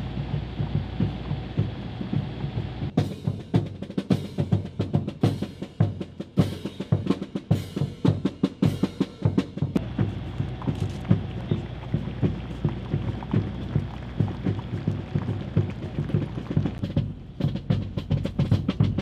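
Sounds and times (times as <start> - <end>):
bass drum beats: 0.0 - 19.0
snare drum strokes and rolls: 0.0 - 19.0.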